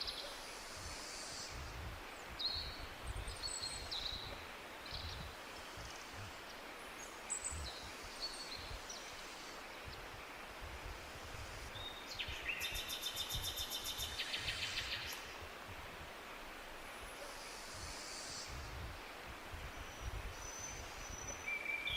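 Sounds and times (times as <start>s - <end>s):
songbirds chirping: 0.0s - 21.9s
steady forest hiss: 0.0s - 21.9s.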